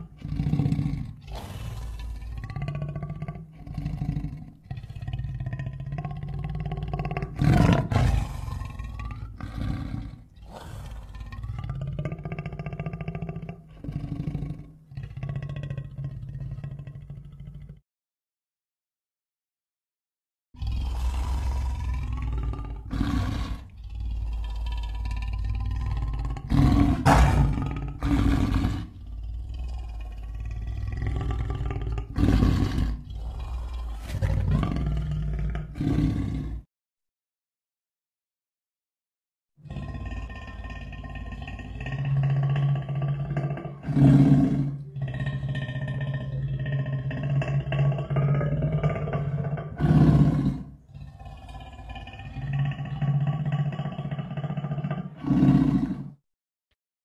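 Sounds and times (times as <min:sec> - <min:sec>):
monster roaring: 0:00.0 - 0:04.4, 0:05.5 - 0:15.8, 0:20.6 - 0:36.6, 0:39.6 - 0:56.2.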